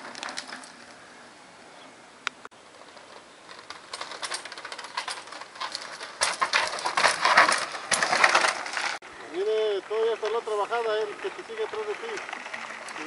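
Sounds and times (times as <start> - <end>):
bike tyres crunching over stones: 0.0 - 1.2, 2.5 - 13.0.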